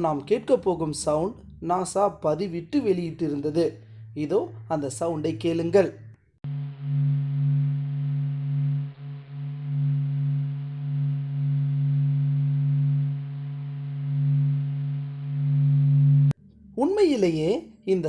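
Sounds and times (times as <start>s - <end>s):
low steady hum with overtones: 0.0s - 17.7s.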